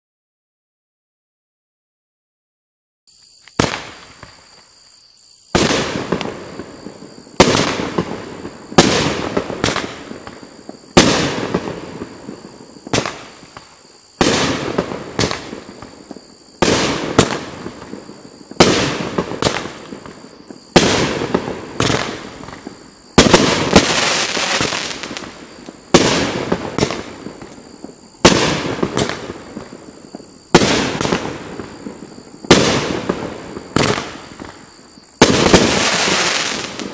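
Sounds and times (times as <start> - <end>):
firework shots with hiss: 3.3 - 4.7, 5.5 - 36.9.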